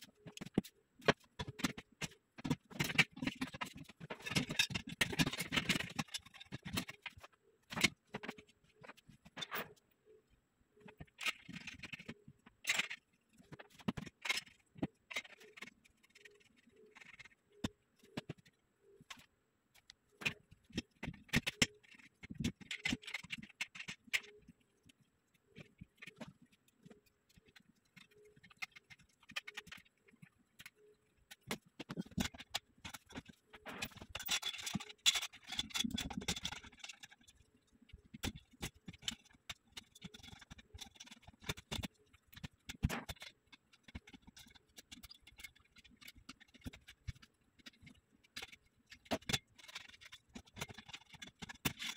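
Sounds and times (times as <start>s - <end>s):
metal parts clicking and knocking: 0.0s - 9.9s, 10.8s - 51.9s.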